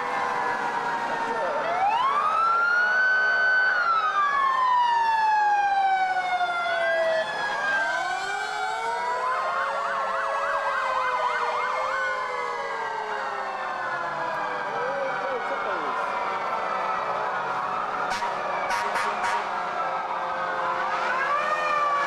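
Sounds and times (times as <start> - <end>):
fast siren yelp: 0.0 - 22.0
fire engine sirens wailing: 0.0 - 22.0.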